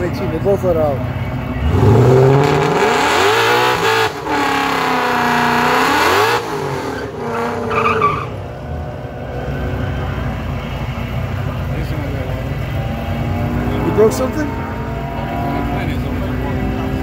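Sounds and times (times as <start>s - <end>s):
drag car engine revving: 1.5s - 17.0s.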